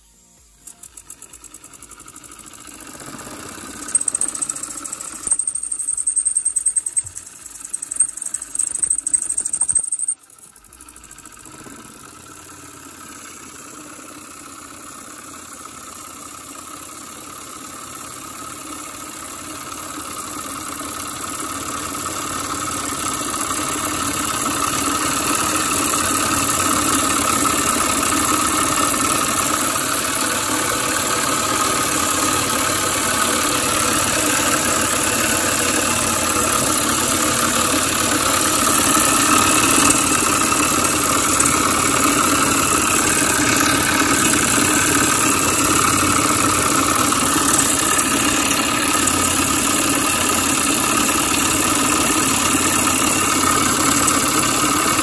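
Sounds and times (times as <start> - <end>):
steam engine running: 0.0 - 15.1, 18.7 - 55.0.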